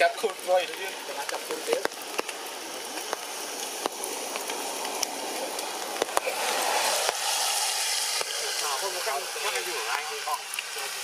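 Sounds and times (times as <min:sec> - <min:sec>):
light rain hissing: 0:00.0 - 0:11.0
sharp drips: 0:00.0 - 0:11.0.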